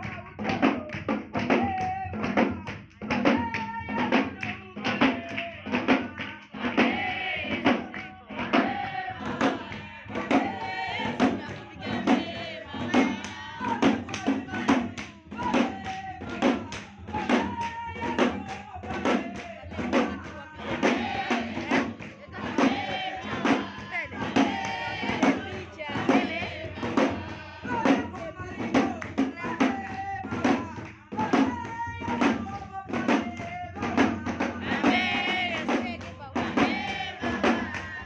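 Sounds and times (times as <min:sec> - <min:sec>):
group singing gospel song: 0:00.0 - 0:38.0
percussive beat: 0:00.0 - 0:38.0.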